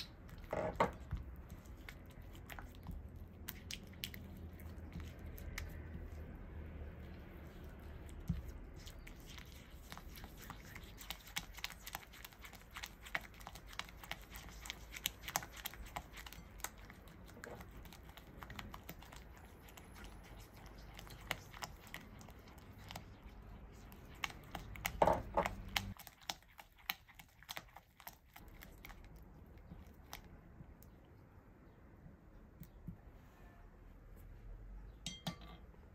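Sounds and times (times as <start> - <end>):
wet sticky mixing: 0.0 - 32.9.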